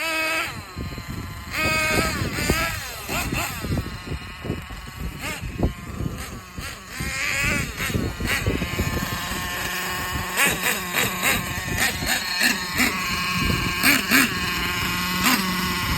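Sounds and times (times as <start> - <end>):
small model engine revving: 0.0 - 15.9.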